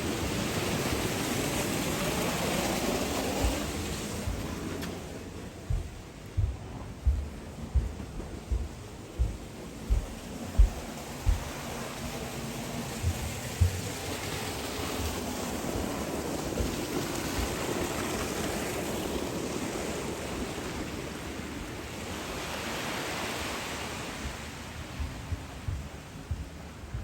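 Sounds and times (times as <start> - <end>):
sea waves washing onto beach: 0.0 - 27.0
wind thumping on microphone: 0.2 - 18.8, 23.4 - 27.0.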